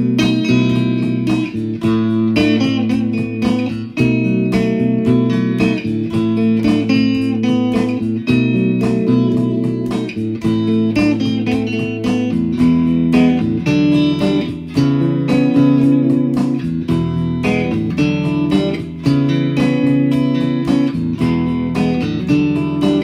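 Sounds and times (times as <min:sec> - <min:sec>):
guitar music: 0:00.0 - 0:23.0
steady beat: 0:00.0 - 0:23.0
sustained bass notes: 0:00.0 - 0:23.0.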